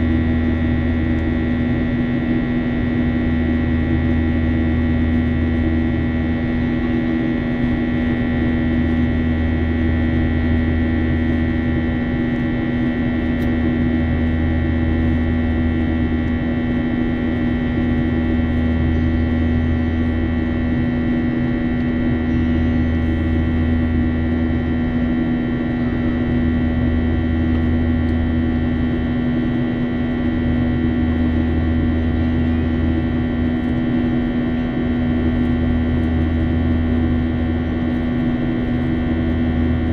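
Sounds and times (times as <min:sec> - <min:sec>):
airliner cabin engine hum: 0:00.0 - 0:39.9
low drone: 0:00.0 - 0:39.9.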